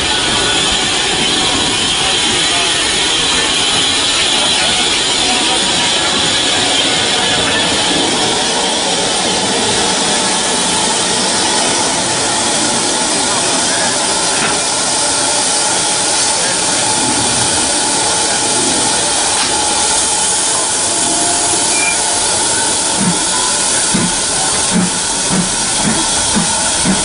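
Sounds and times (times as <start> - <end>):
soft regular locomotive beat: 0.0 - 27.0
steam locomotive hissing: 0.0 - 27.0.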